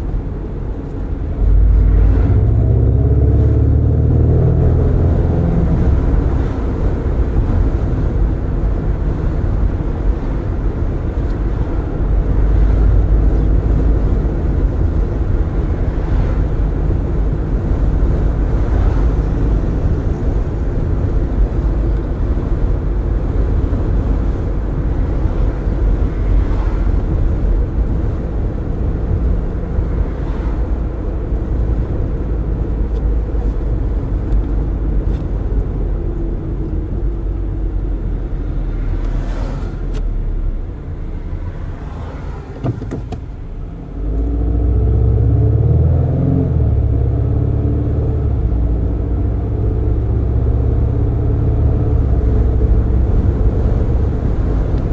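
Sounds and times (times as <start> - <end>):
car engine: 0.0 - 54.9
road and wind rumble: 0.0 - 54.9.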